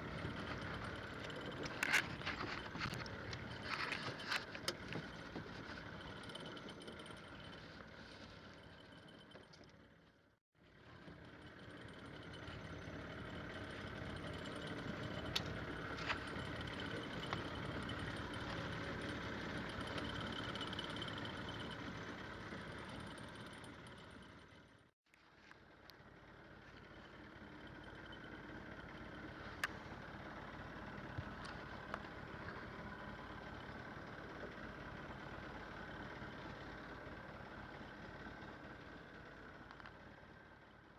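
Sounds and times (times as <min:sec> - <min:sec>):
boat engine running: 0:00.0 - 0:24.9, 0:25.6 - 0:40.9.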